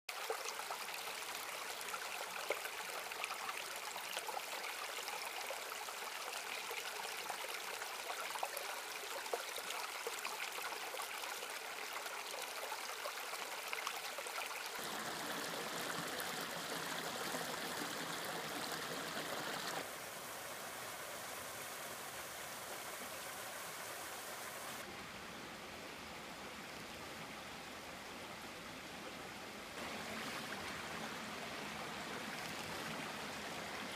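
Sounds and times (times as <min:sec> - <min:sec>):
brook flowing over rocks: 0:00.1 - 0:24.9, 0:29.8 - 0:33.9.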